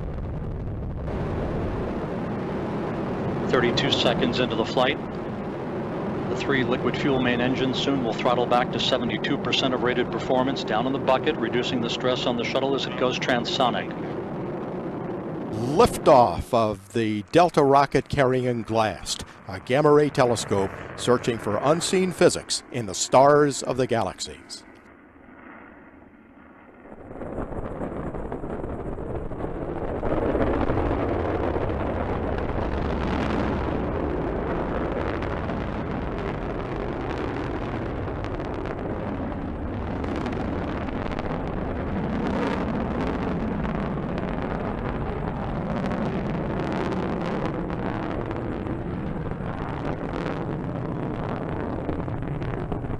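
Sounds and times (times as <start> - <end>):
crackles: 0.0 - 24.9, 26.7 - 52.9
rocket engine roar: 0.0 - 52.9.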